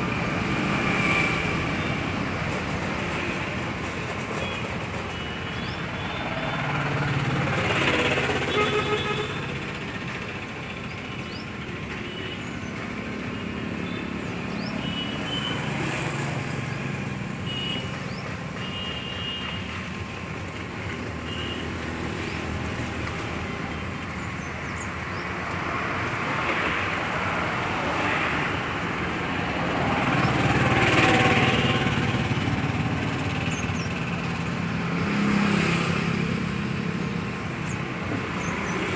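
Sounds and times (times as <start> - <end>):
road traffic: 0.0 - 38.9
vehicles passing by: 0.0 - 38.9.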